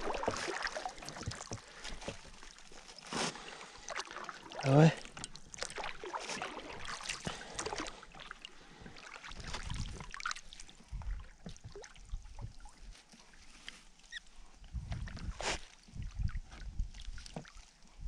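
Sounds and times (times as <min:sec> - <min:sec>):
oars splashing and knocking: 0:00.0 - 0:18.0.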